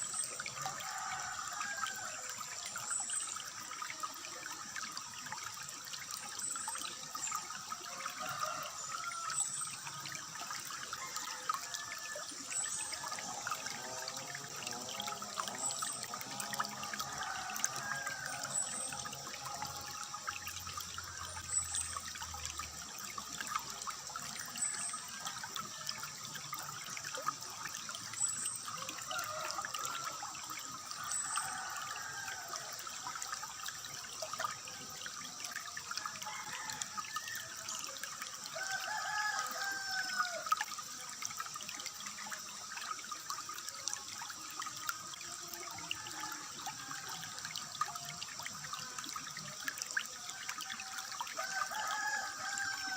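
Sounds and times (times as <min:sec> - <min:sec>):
water trickling: 0:00.0 - 0:52.9.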